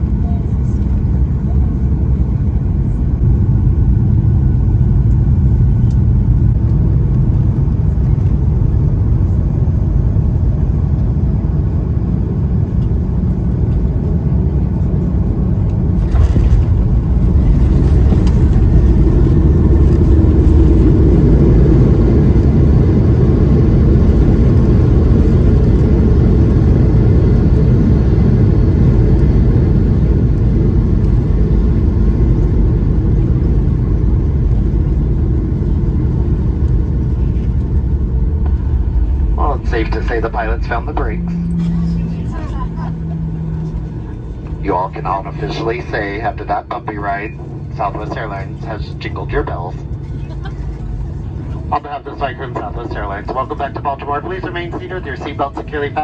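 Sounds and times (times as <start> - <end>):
aircraft engines and airflow rumble: 0.0 - 56.0.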